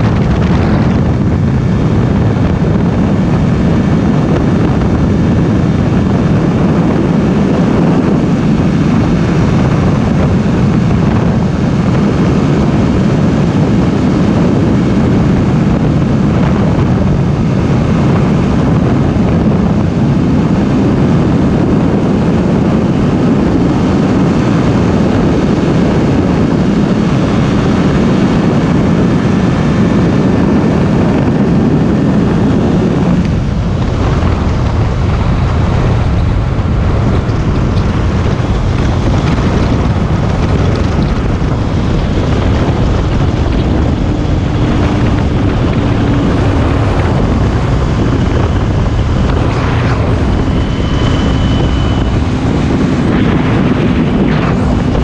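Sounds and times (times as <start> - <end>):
motorcycle engine drone: 0.0 - 55.0
wind noise on microphone: 0.0 - 55.0.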